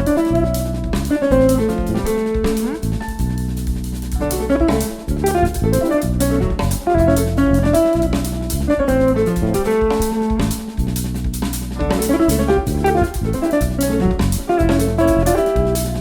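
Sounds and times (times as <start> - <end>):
melodic guitar lines: 0.0 - 3.1, 4.2 - 10.8, 11.8 - 16.0
jazz band playing: 0.0 - 16.0.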